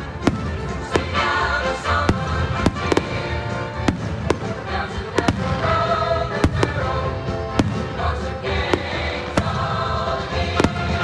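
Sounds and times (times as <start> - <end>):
music playing: 0.0 - 11.0.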